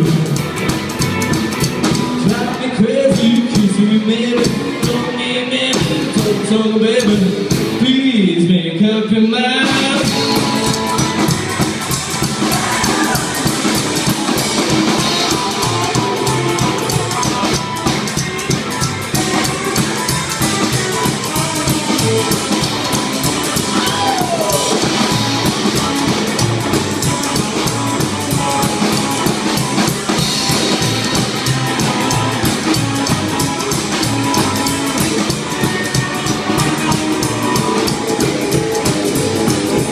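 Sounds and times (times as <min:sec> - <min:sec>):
drum kit: 0:00.0 - 0:08.3, 0:09.5 - 0:39.9
electric guitar: 0:00.0 - 0:39.9
upright bass: 0:00.0 - 0:39.9.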